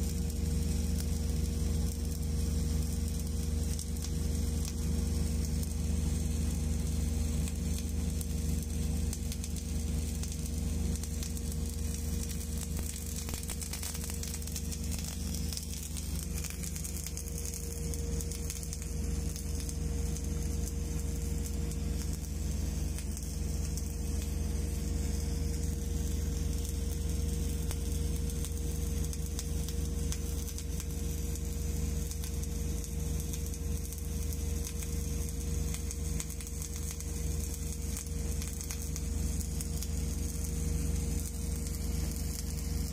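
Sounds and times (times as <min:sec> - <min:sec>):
steady low hum: 0:00.0 - 0:42.9
welding arc crackling: 0:00.0 - 0:42.9.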